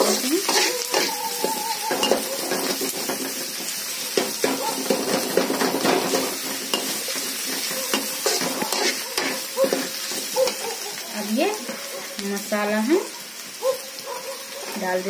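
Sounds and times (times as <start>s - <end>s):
spatula scraping pan: 0.0s - 12.2s
onions sizzling in oil: 0.0s - 15.0s.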